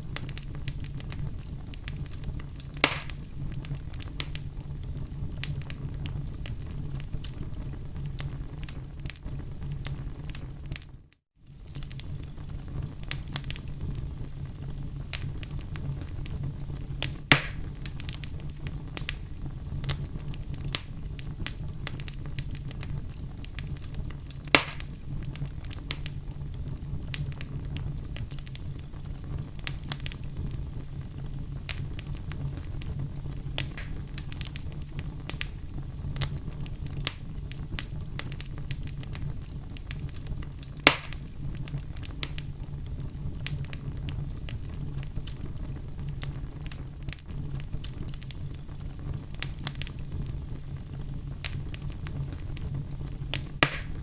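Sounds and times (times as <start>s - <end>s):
fire popping: 0.0s - 54.0s
fireplace fire crackling: 0.0s - 54.0s.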